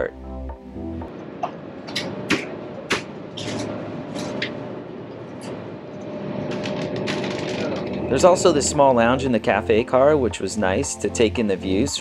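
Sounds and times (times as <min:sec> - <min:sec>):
train interior rumble: 0:01.1 - 0:10.9.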